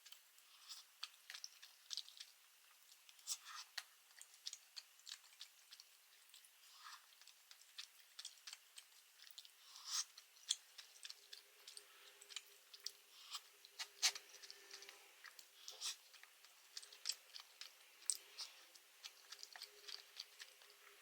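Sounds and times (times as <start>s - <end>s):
person chewing with mouth clicks: 0.0s - 21.0s.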